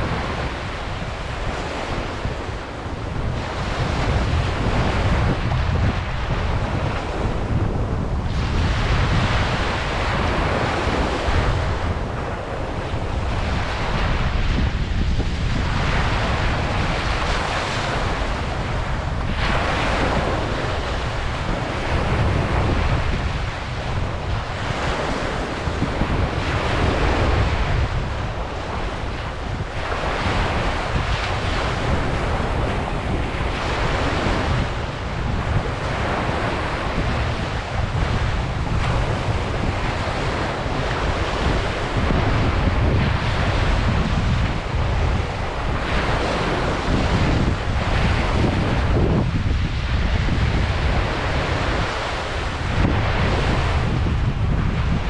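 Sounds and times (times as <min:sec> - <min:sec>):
ocean waves breaking: 0:00.0 - 0:55.0
wind buffeting microphone: 0:00.0 - 0:55.0.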